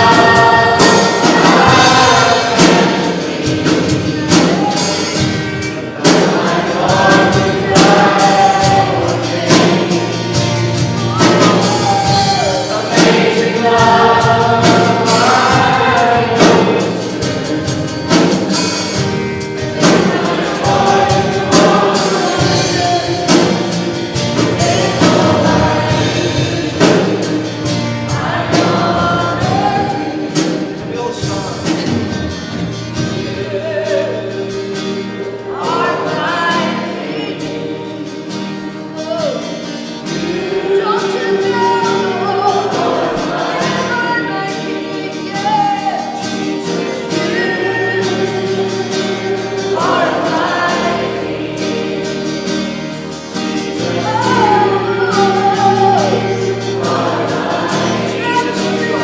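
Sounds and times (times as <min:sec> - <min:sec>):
congregation singing worship song: 0:00.0 - 0:59.0
drums: 0:00.0 - 0:59.0.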